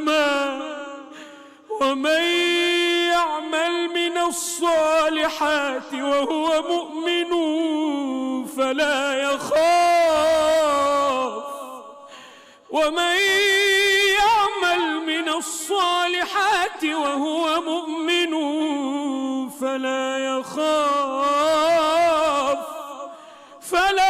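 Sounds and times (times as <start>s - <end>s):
man chanting melodically: 0.0s - 12.1s, 12.7s - 24.0s.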